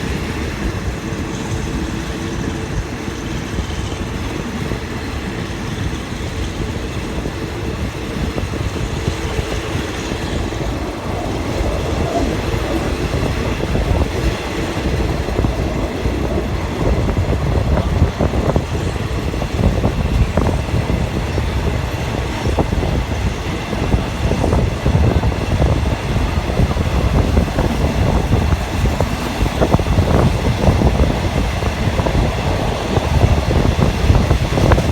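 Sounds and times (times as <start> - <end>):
train rumble: 0.0 - 34.9.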